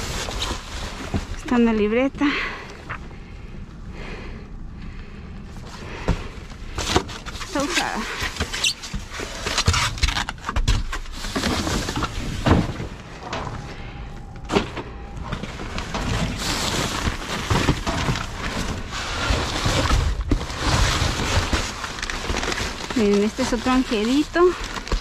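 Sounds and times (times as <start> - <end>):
cardboard and plastic rustling: 0.0 - 3.0, 5.5 - 25.0.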